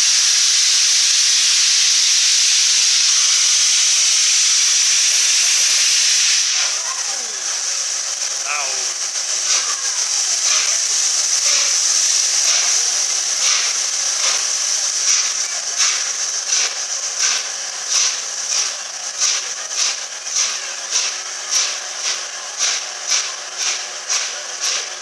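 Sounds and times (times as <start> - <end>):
steam locomotive exhaust chuffs: 0.0 - 25.0
steam locomotive hissing: 0.0 - 25.0.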